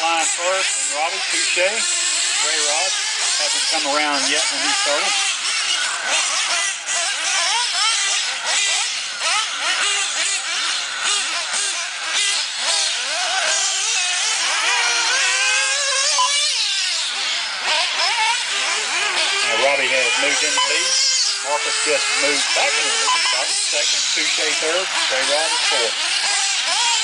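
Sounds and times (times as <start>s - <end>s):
rc car engines whining: 0.0s - 27.0s.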